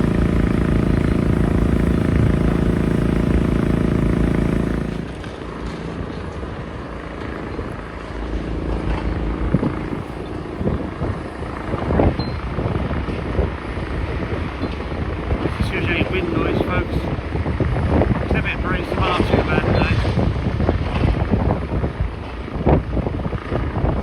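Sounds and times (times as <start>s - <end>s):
machinery engine drone: 0.0s - 24.0s.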